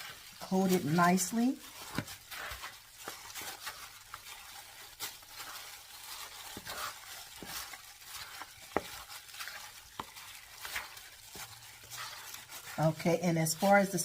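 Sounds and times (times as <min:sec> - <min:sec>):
wet squishing of raw meat: 0:00.0 - 0:14.0.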